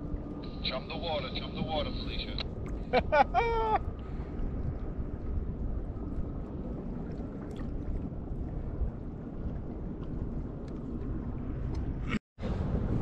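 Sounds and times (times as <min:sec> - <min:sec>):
wind noise on microphone: 0:02.5 - 0:13.0.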